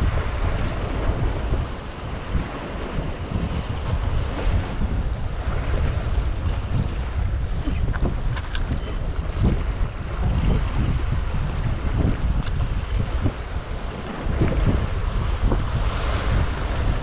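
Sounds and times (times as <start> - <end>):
sea and surf rushing: 0.0 - 17.0
wind buffeting microphone: 0.0 - 17.0.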